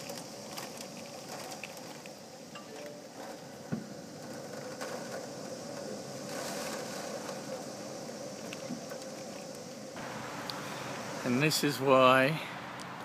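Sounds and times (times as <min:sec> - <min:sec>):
background hiss: 0:00.0 - 0:13.0
steady mechanical hum: 0:00.0 - 0:13.0.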